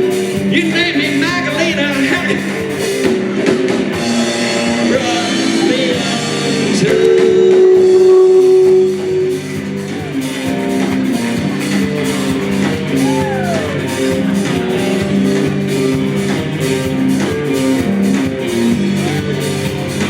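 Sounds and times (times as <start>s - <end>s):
live band playing instrumental: 0.0s - 20.0s.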